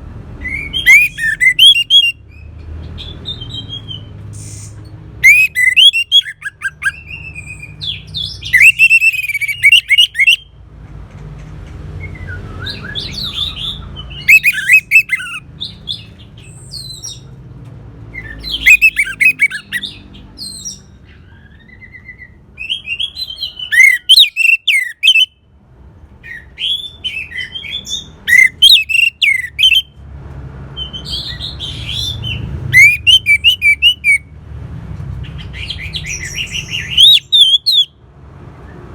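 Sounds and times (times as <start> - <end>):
bird singing whistles and trills: 0.4 - 10.5, 12.0 - 17.3, 18.1 - 25.4, 26.2 - 30.0, 30.8 - 34.3, 35.4 - 38.0.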